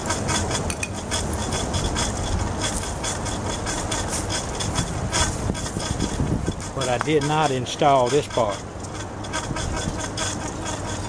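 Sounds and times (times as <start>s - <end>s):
air conditioner humming: 0.0s - 11.0s
rattling ticks: 0.0s - 11.0s.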